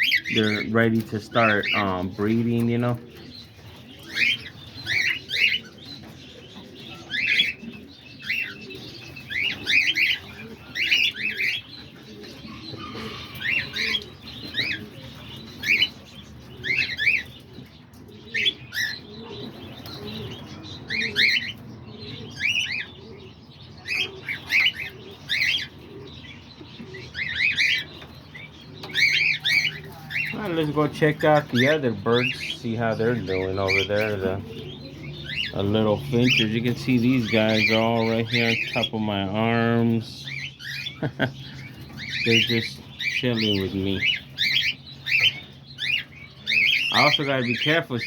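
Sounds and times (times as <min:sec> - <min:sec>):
cockatiels calling sharply: 0:00.0 - 0:02.4, 0:03.1 - 0:06.0, 0:06.8 - 0:11.8, 0:12.4 - 0:17.4, 0:18.3 - 0:22.9, 0:27.2 - 0:39.1, 0:40.3 - 0:48.0
background bird chatter: 0:00.0 - 0:48.0.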